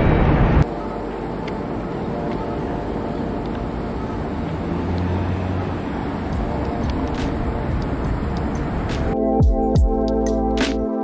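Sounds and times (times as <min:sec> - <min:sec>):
passing vehicle rumble: 0:00.0 - 0:09.2
city street traffic: 0:00.0 - 0:10.6.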